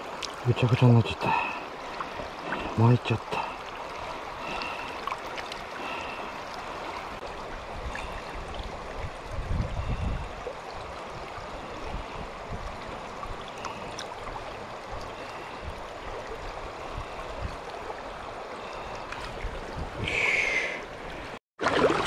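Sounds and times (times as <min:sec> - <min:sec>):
river rushing over shallow bed: 0:00.0 - 0:22.0.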